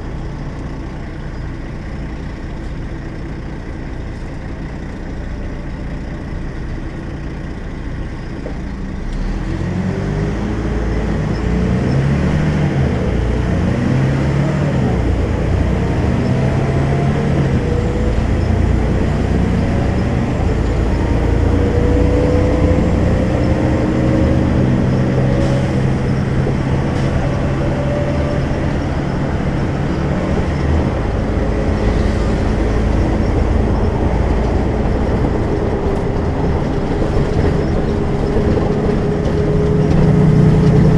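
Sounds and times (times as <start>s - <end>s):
bus engine accelerating: 0.0s - 40.9s.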